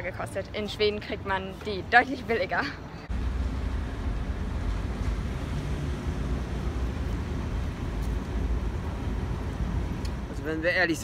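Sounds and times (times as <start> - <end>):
city traffic: 0.0 - 11.0.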